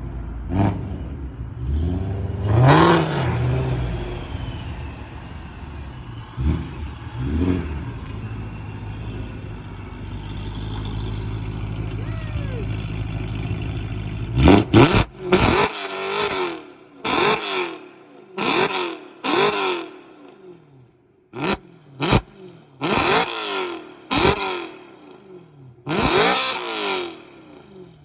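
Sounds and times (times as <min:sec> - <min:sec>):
car engine revving: 0:00.0 - 0:20.8, 0:21.4 - 0:28.0.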